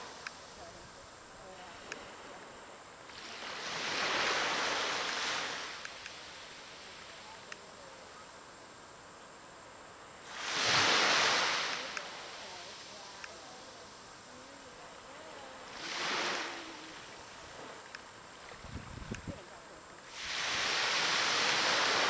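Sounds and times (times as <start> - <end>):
small waves breaking: 0.0 - 8.3, 10.2 - 22.0
low hiss of surf: 0.0 - 22.0.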